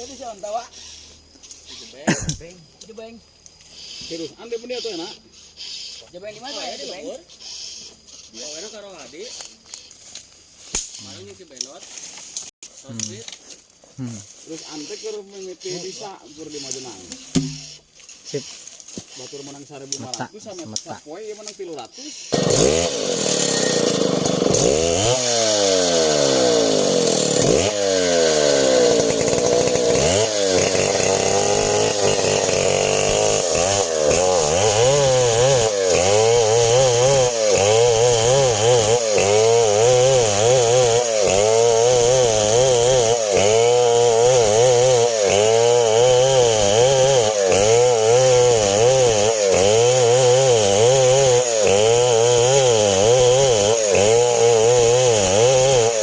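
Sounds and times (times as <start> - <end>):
chainsaw revving and cutting wood: 0.0 - 11.8, 14.0 - 56.0.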